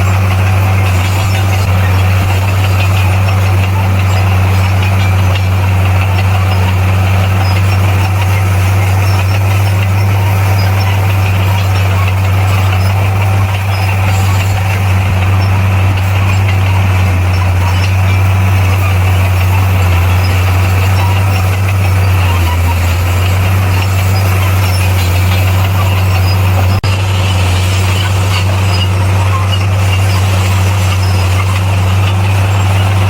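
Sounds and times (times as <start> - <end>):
heavy diesel engine drone: 0.0 - 33.0.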